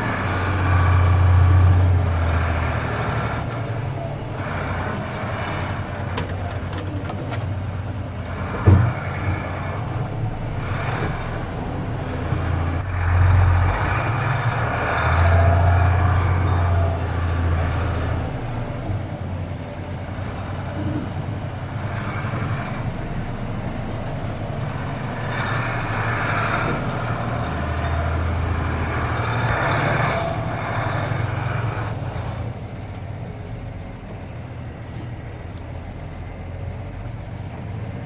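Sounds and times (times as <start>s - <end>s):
truck diesel engine under load: 0.0s - 38.0s.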